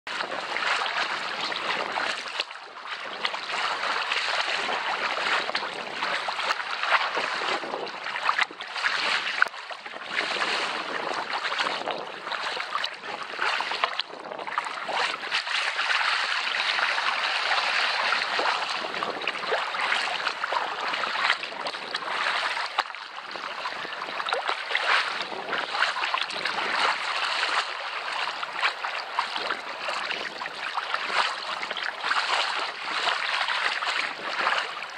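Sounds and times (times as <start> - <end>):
paddle strokes in water: 0.1 - 34.9
water lapping against hull: 0.1 - 34.9.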